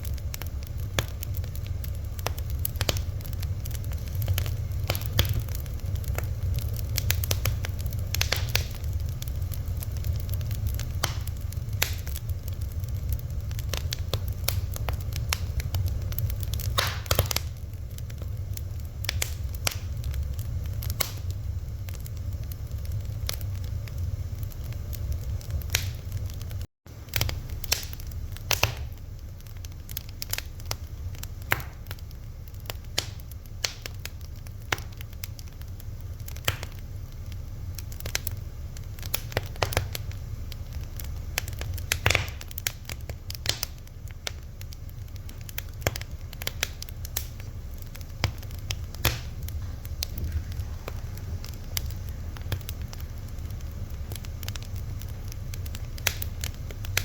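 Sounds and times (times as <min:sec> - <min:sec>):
fire crackling and popping: 0:00.0 - 0:57.0
low rumble: 0:00.0 - 0:57.0.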